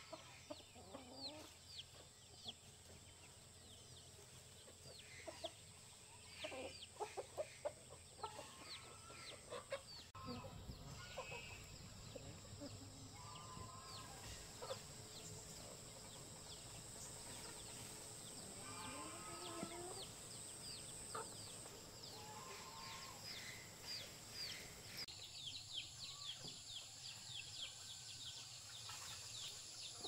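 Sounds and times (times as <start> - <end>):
chickens clucking: 0.0 - 25.1.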